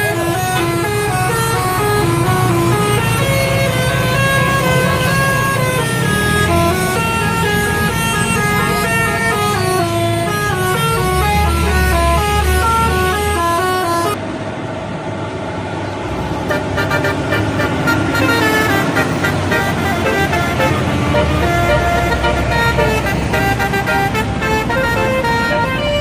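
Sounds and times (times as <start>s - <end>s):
musical bus horns: 0.0s - 14.2s, 16.4s - 26.0s
bus engine hum: 0.0s - 26.0s.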